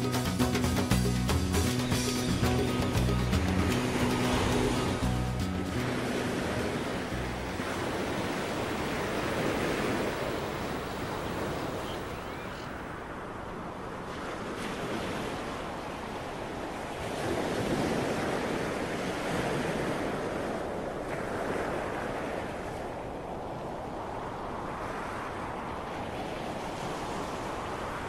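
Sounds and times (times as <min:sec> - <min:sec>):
ocean surf breaking on beach: 0:00.0 - 0:28.0
wind on microphone: 0:01.0 - 0:28.0.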